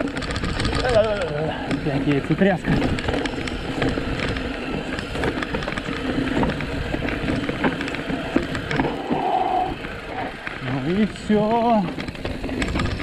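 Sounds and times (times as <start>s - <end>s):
bike rattling: 0.0s - 13.0s
bike tyres crunching over stones: 0.0s - 13.0s.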